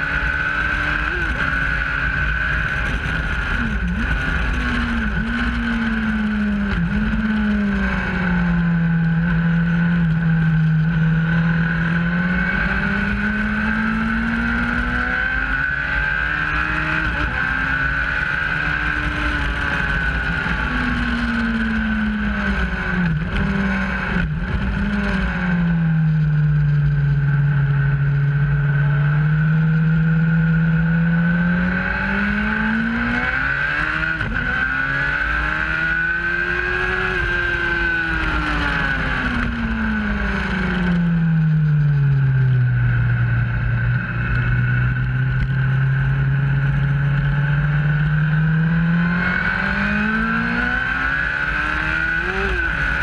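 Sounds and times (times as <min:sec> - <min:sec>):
motorcycle engine running: 0:00.0 - 0:53.0
rushing wind: 0:00.0 - 0:53.0.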